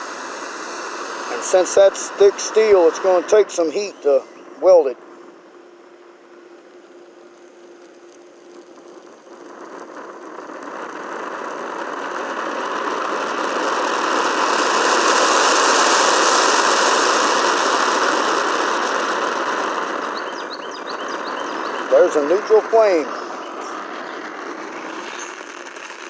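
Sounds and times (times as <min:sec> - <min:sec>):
welding torch flame hissing: 0:00.0 - 0:26.0.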